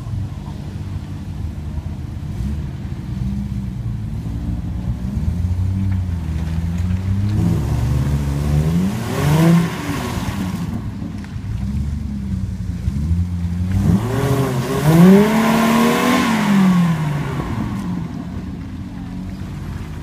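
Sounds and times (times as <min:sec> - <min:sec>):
truck engine labouring in mud: 0:00.0 - 0:20.0.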